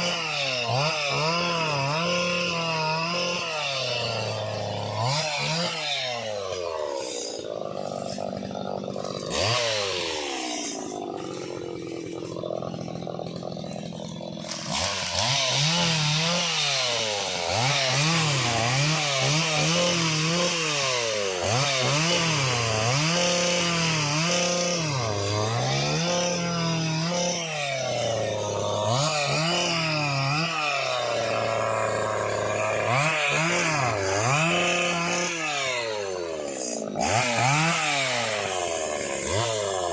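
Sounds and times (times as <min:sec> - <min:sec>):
pole pruner engine revving: 0:00.0 - 0:39.9.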